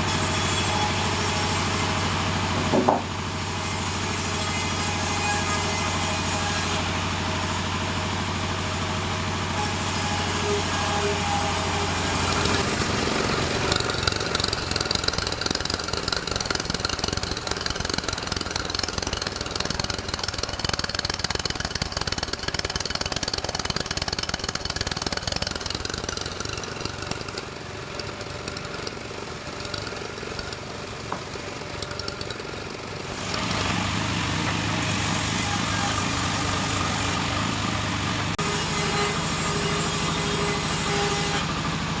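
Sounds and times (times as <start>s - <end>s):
saw cutting timber: 0.0s - 42.0s
machinery engine hum: 6.7s - 42.0s.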